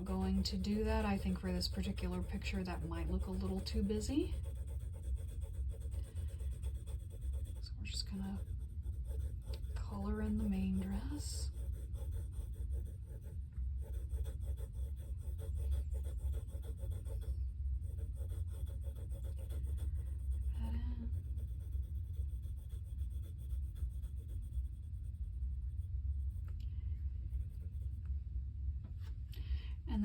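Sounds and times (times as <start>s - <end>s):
pencil scribbling on paper: 0.0s - 26.6s, 27.3s - 28.0s
steady low rumble: 0.0s - 30.0s.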